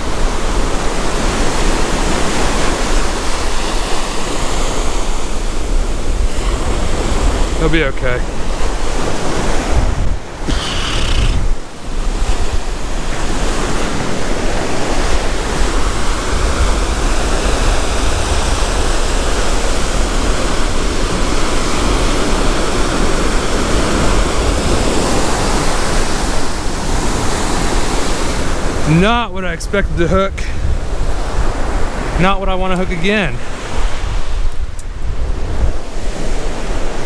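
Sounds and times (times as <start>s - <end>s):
ocean surf breaking on beach: 0.0s - 37.0s
wind buffeting microphone: 0.0s - 37.0s.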